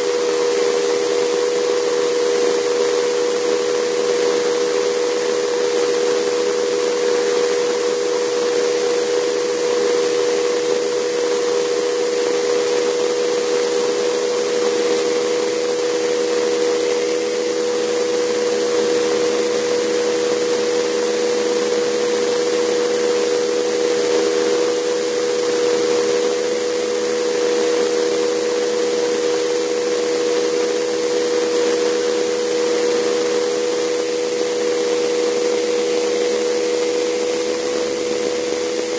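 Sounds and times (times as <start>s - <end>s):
model helicopter turbine whine: 0.0s - 38.9s.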